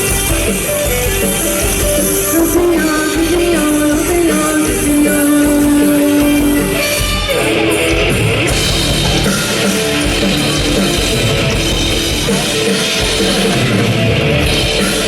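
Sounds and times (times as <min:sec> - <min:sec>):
electric guitar notes: 0:00.0 - 0:15.0
rock band playing: 0:00.0 - 0:15.0.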